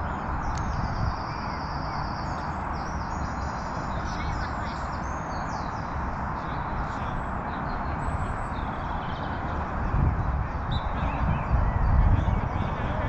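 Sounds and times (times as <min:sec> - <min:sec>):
small birds chirping: 0:00.0 - 0:13.0
steady rushing noise: 0:00.0 - 0:13.0.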